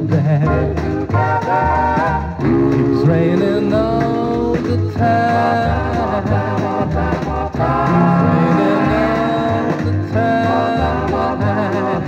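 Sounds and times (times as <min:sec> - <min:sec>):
male vocal group singing harmonies: 0:00.0 - 0:12.0
slow backing band: 0:00.0 - 0:12.0.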